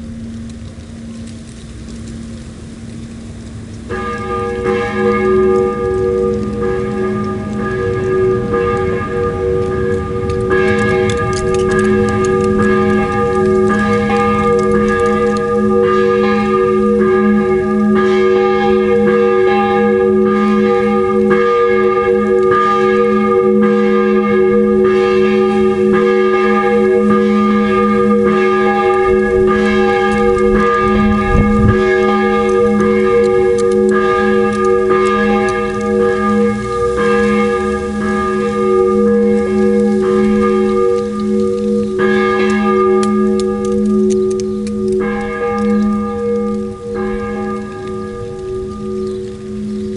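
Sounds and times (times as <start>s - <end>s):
church bells ringing: 3.8s - 49.9s.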